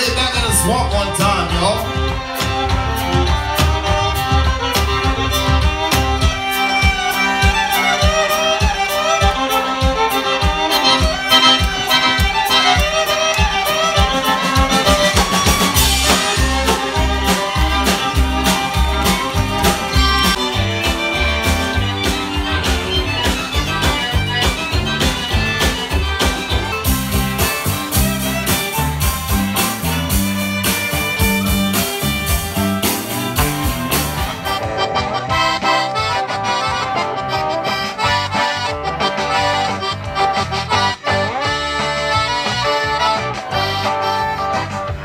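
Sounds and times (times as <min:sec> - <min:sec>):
button accordion: 0:00.0 - 0:45.0
drum kit dance beat: 0:00.0 - 0:45.0
fiddle: 0:00.0 - 0:45.0
upright bass: 0:00.0 - 0:45.0.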